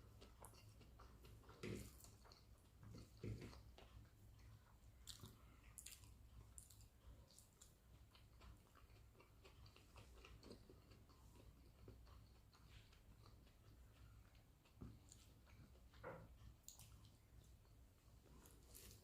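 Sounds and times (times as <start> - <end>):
close-up chewing mouth smacks: 0.0 - 19.0.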